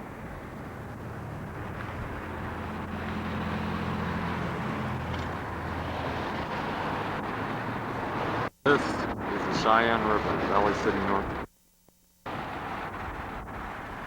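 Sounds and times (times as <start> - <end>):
low engine hum: 0.0 - 11.5
rushing noise: 0.0 - 11.5, 12.2 - 14.0.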